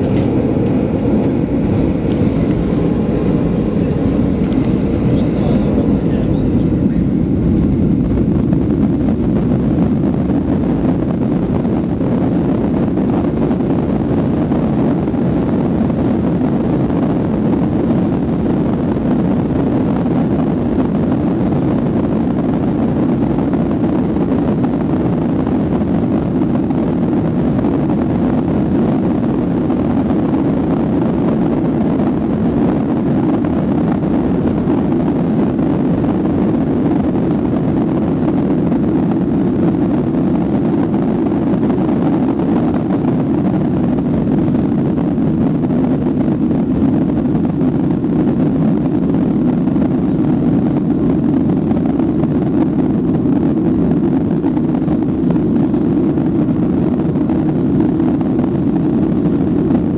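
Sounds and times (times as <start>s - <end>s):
low rumble of jet engines: 0.0s - 59.9s.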